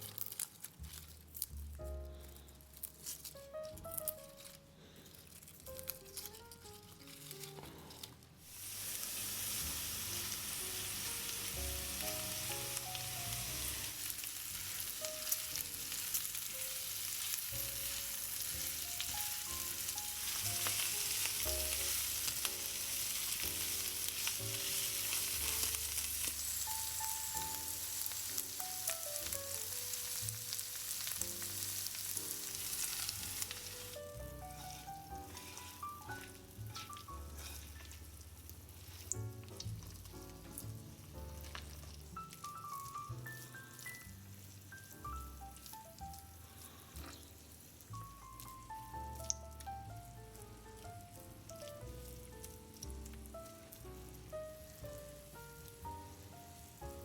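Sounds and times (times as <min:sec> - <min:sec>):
food sizzling in oil: 0:08.4 - 0:57.0.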